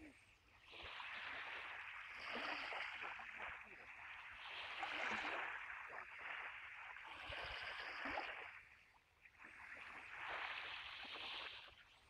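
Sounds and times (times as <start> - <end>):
small waves washing on beach: 0.0 - 12.0.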